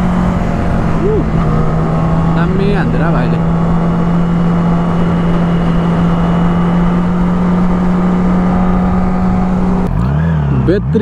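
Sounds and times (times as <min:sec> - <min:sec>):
motorcycle engine droning: 0:00.0 - 0:11.0
wind and road noise: 0:00.0 - 0:11.0.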